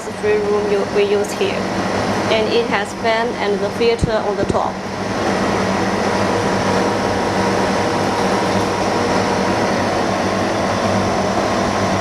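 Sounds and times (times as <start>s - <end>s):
fan unit rushing air with hum: 0.0s - 12.0s.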